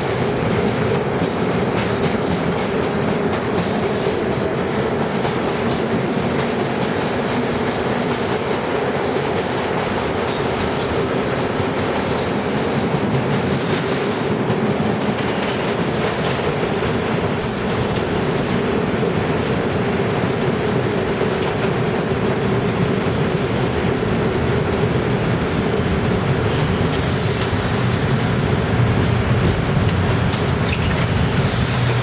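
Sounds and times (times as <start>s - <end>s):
subway train wheels rumbling: 0.0s - 32.0s.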